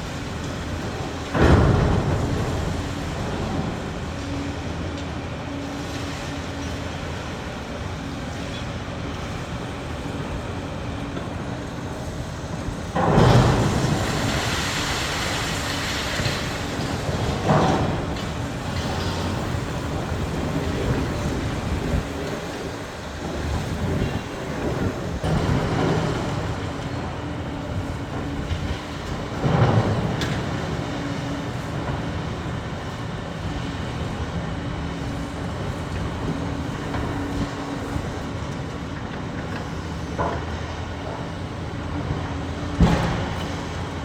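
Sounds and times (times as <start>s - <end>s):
heavy engine running: 0.0s - 44.0s.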